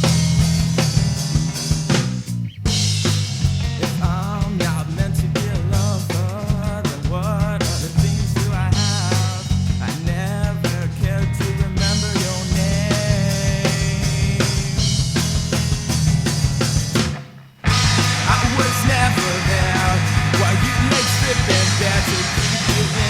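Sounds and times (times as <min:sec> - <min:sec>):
bass line: 0:00.0 - 0:23.0
drum kit: 0:00.0 - 0:23.0
rock band playing: 0:00.0 - 0:23.0.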